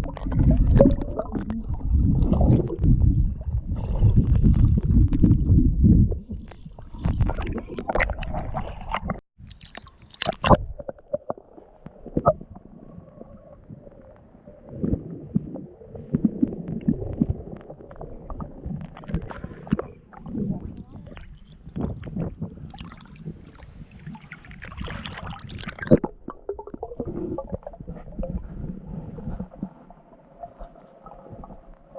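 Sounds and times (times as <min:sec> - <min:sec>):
muffled underwater churning: 0:00.0 - 0:31.9.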